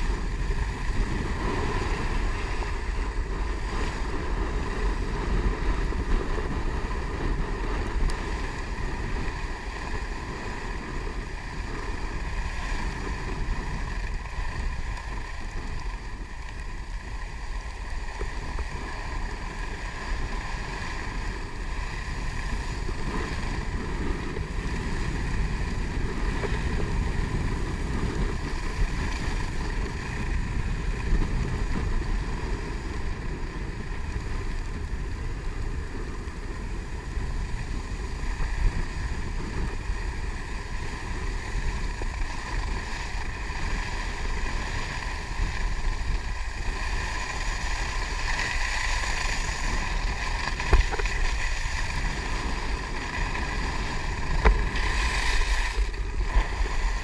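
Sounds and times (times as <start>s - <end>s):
skis carving on snow: 0.0s - 57.0s
wind rushing over microphone: 0.0s - 57.0s.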